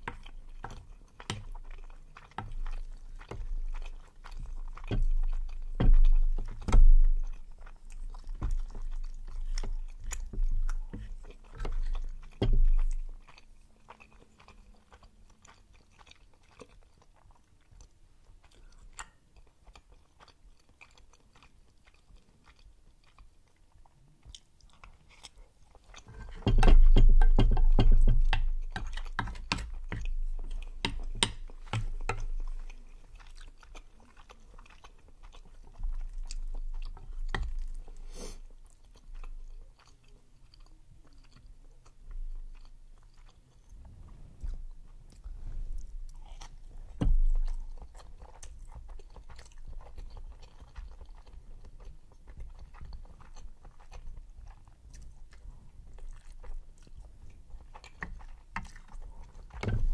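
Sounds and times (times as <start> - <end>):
close chewing mouth sounds: 0.0 - 59.9.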